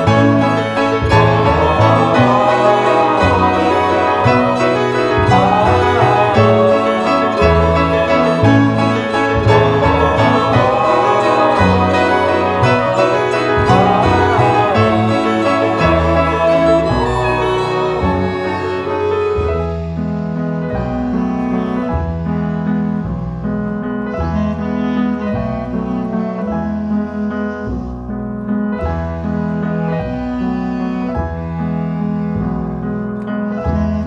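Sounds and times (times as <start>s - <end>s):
low bass line: 0.0s - 34.0s
piano: 0.0s - 34.0s.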